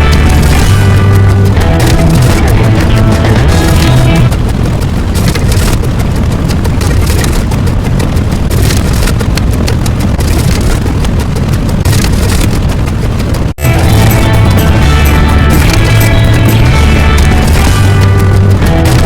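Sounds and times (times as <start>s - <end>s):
dense rumbling rush noise: 0.0s - 19.0s.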